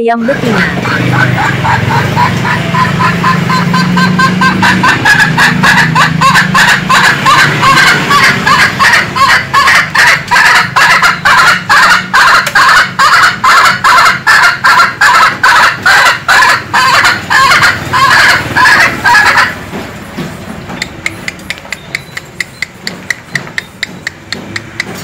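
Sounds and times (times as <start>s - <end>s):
hen clucking: 0.0s - 25.0s.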